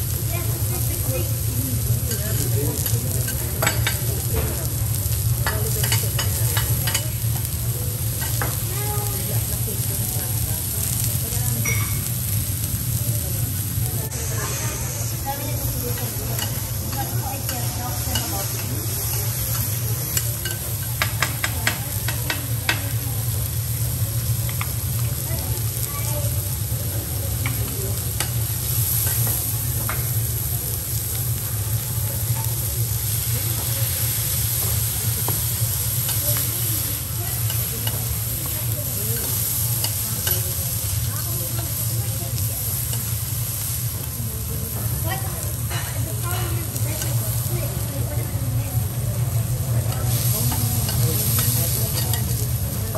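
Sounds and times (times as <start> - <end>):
food sizzling on griddle: 0.0 - 52.9.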